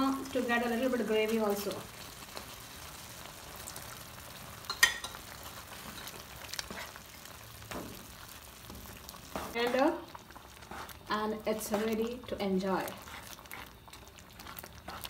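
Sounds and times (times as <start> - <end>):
gravy sizzling and bubbling: 0.0 - 15.0
spatula stirring beans: 0.1 - 15.0.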